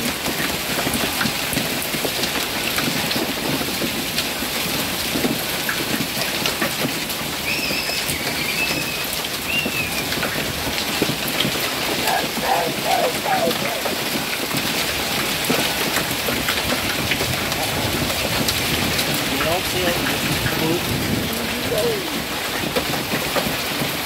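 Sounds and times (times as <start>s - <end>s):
hail and rain pelting: 0.0s - 24.0s.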